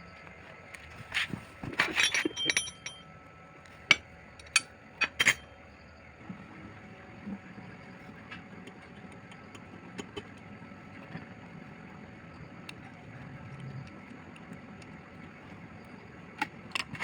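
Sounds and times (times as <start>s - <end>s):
faint mechanical hum: 0.0s - 17.0s.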